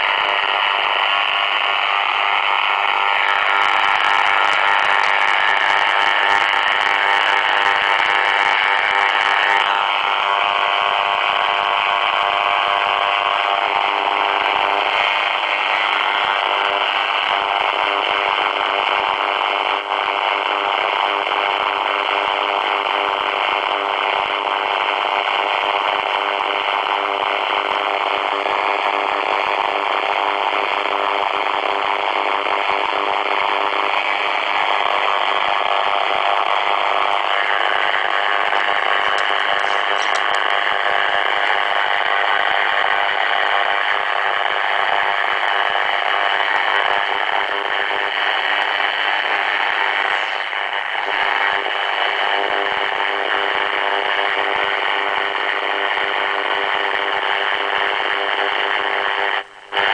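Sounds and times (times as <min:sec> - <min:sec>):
radio interference buzzing hiss: 0:00.0 - 0:59.9
steady radio tones: 0:00.0 - 0:59.9.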